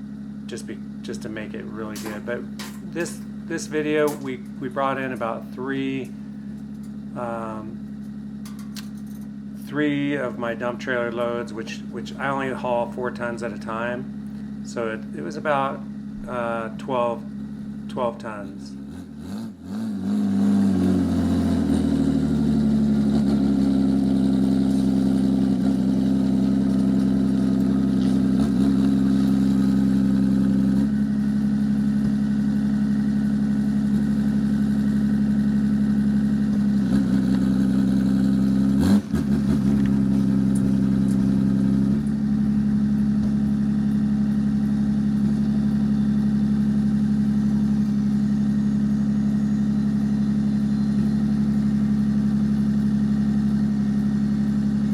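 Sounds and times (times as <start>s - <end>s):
motor engine running: 0.0s - 54.9s.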